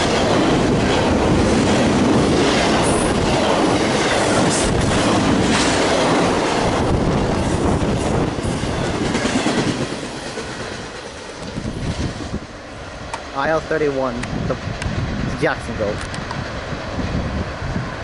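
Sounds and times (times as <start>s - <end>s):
freight train wheels rumbling and clacking: 0.0s - 18.0s.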